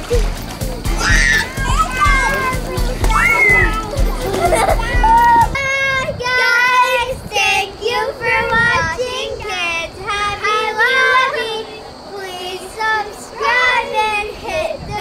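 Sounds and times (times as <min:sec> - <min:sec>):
children singing: 0:00.9 - 0:05.6, 0:06.3 - 0:15.0.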